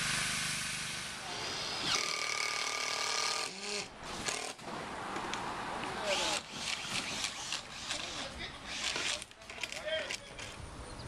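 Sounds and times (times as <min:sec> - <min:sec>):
people talking outdoors: 0:01.2 - 0:11.0.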